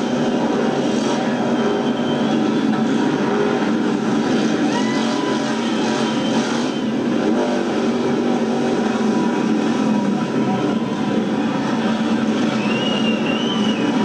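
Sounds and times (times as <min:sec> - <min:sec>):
many motorcycle engines running: 0:00.0 - 0:14.0.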